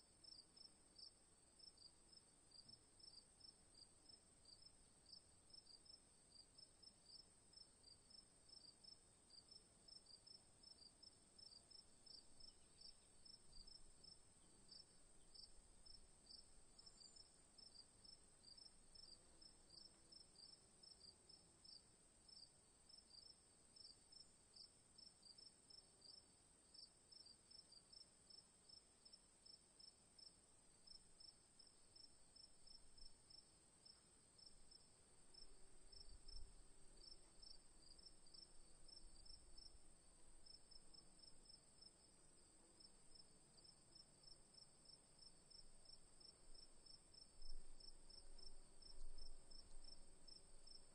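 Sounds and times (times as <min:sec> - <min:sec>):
crickets chirping: 0:00.2 - 0:50.9.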